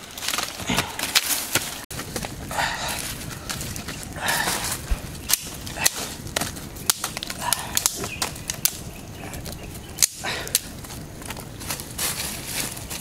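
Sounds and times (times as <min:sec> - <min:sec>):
campfire crackling: 0:00.0 - 0:13.0
fire pops and snaps: 0:00.0 - 0:13.0.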